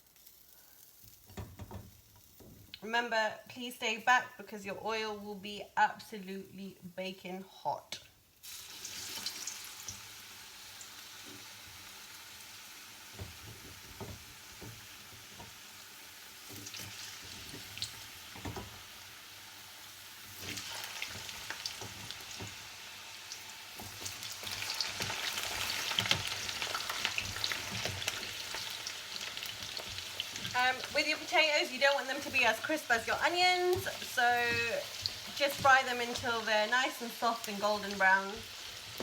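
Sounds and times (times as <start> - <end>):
potatoes sizzling in hot oil: 0.0 - 2.8, 8.1 - 39.0.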